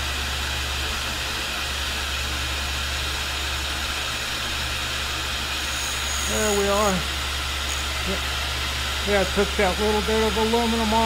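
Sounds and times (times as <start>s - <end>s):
shop vacuum running: 0.0s - 11.0s.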